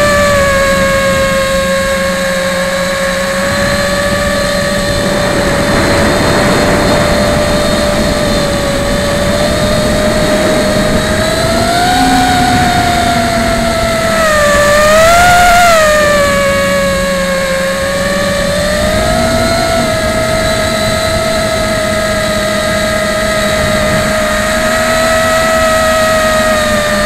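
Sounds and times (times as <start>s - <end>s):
rushing air noise: 0.0s - 25.1s
quadcopter propellers whining: 0.0s - 27.0s.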